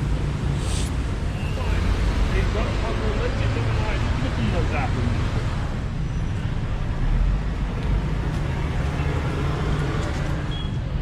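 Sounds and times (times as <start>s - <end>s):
low rumble of passing vehicles: 0.0s - 11.0s.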